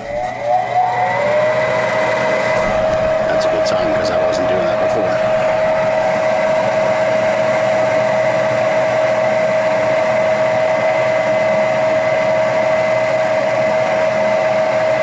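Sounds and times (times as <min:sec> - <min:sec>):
furnace motor humming: 0:00.0 - 0:15.0.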